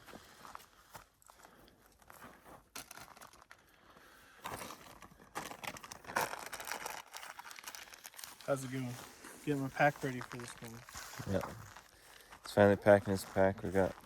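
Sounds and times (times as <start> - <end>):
gear crinkling and rustling: 0.0 - 14.0.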